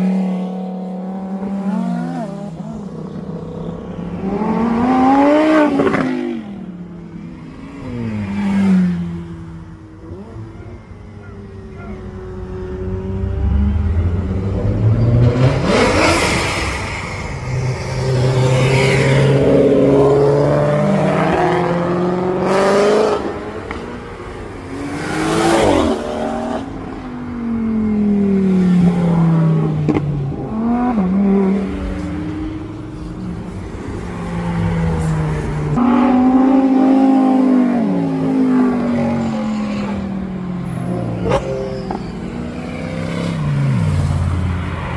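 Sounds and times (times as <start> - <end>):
cars accelerating hard: 0.0 - 6.7, 12.5 - 44.9.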